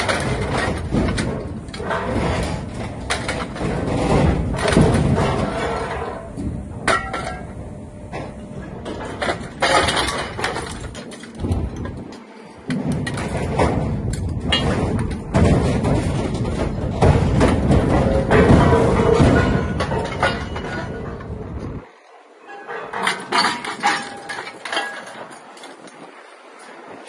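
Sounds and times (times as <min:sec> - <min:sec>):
steady machine noise: 0:00.0 - 0:24.8
scrap metal clanking and crashing: 0:00.0 - 0:27.0.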